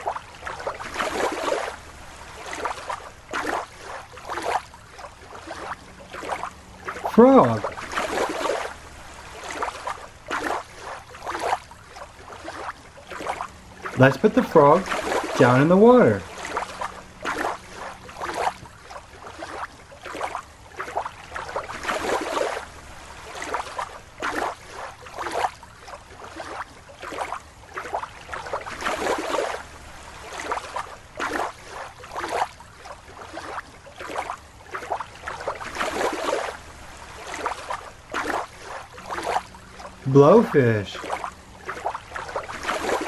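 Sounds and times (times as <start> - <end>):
small splashes and gurgles: 0.0 - 40.1, 41.0 - 43.0
water sloshing and bubbling: 0.0 - 43.0.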